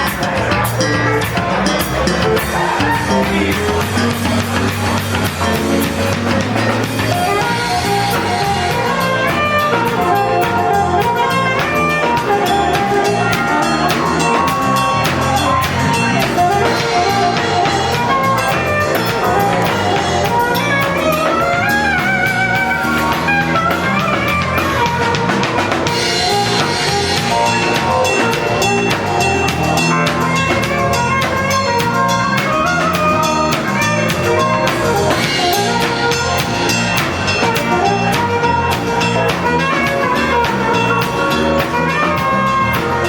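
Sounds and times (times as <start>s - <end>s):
drum kit beat: 0.0s - 43.0s
live band playing: 0.0s - 43.0s.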